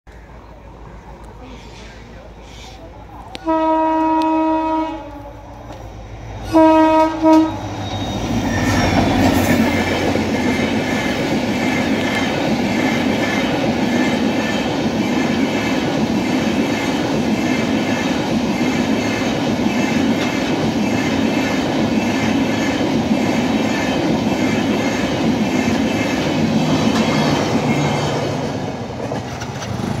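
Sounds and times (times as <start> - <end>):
train wheels rattling on rails: 3.2 - 30.0.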